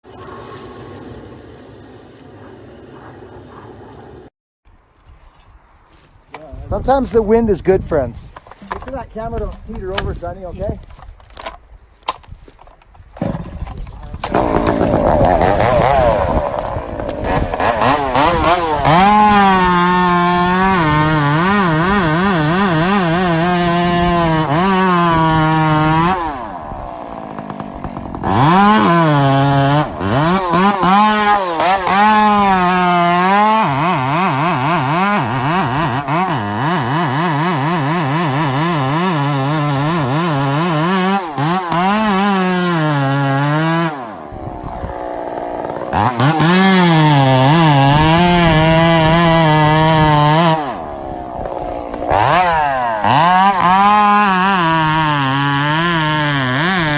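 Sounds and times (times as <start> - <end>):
chainsaw cutting wood: 8.4 - 56.9.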